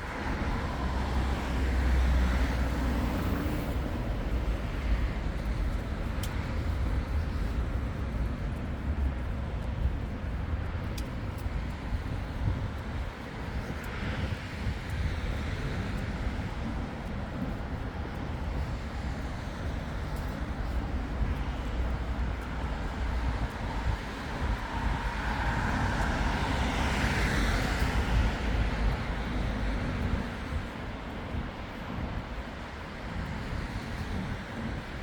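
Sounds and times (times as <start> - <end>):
road traffic passing: 0.0 - 9.1, 13.0 - 32.5
wind rumbling on microphone: 0.0 - 35.0.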